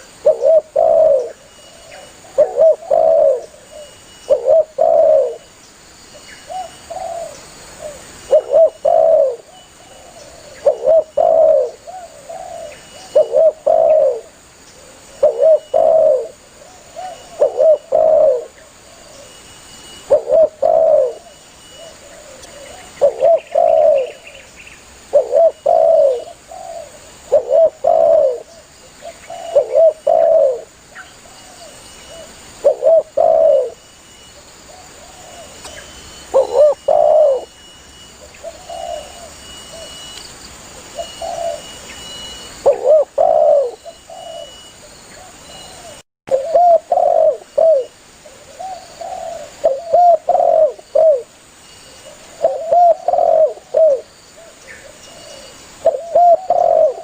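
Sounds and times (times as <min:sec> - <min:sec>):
dove cooing: 0:00.0 - 0:05.5, 0:06.5 - 0:19.4, 0:20.0 - 0:24.4, 0:25.1 - 0:33.8, 0:34.7 - 0:37.6, 0:38.2 - 0:40.1, 0:40.8 - 0:51.3, 0:52.1 - 0:57.0.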